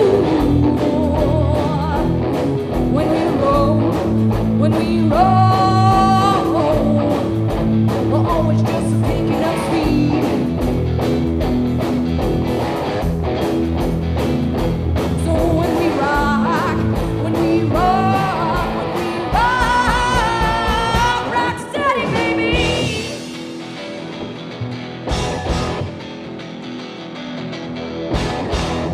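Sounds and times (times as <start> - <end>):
rock band playing: 0.0 - 28.9.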